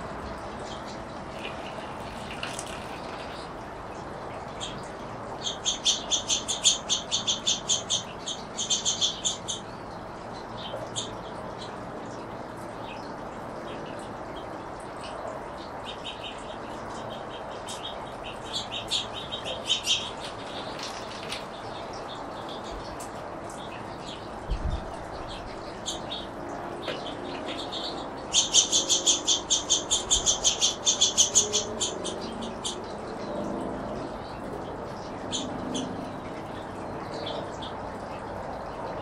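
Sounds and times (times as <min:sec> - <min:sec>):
finches chirping: 0:04.5 - 0:11.8, 0:13.7 - 0:39.0.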